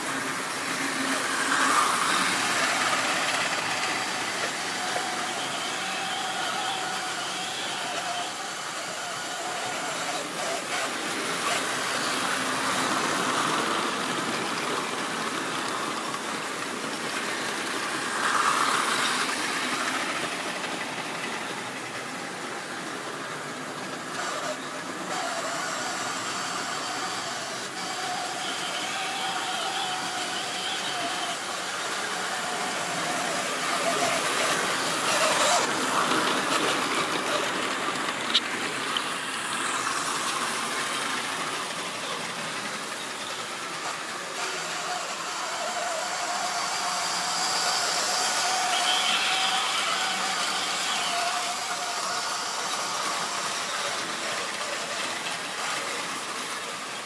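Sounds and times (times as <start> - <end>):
model trains whirring on rails: 0.0 - 57.0.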